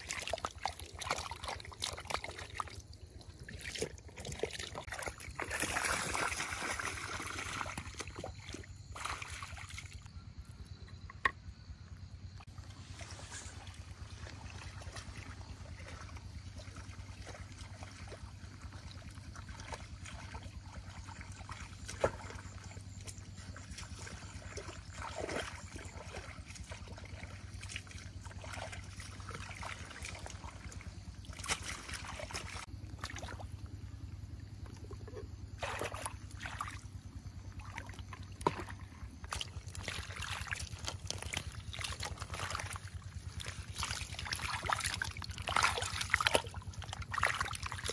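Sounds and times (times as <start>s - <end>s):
water sloshing and splashing: 0.0s - 47.9s.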